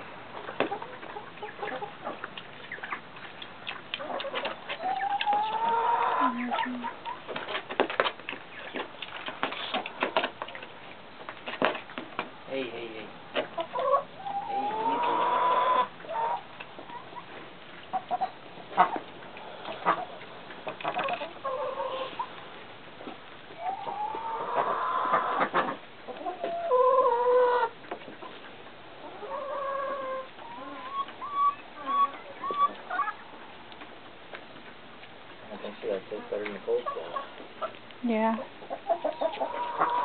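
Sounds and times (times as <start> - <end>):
chickens calling: 0.0 - 40.0.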